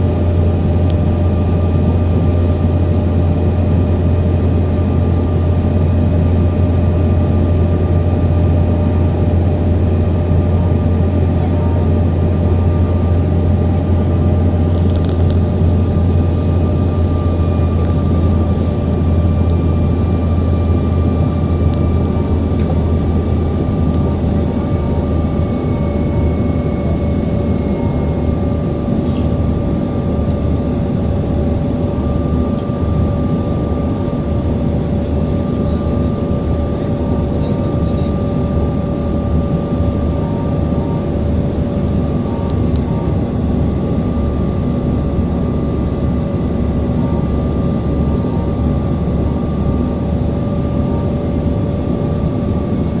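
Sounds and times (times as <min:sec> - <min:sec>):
drone of engines and airflow: 0:00.0 - 0:53.0.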